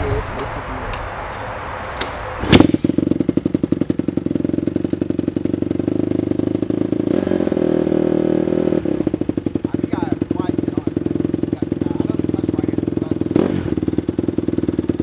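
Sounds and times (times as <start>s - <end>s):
dirt bike engine idling: 2.0s - 15.0s
dirt bike engine starting: 2.4s - 15.0s.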